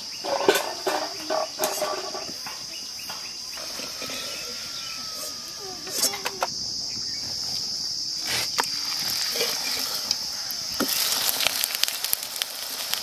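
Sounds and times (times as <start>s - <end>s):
hot oil sizzling: 0.0s - 2.6s, 3.4s - 13.0s
insects droning: 0.0s - 13.0s.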